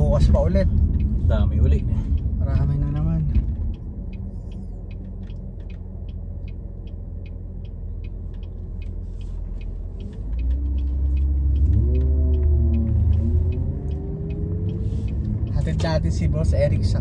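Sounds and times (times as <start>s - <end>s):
car engine and road rumble: 0.0s - 17.0s
turn signal ticking: 0.0s - 17.0s.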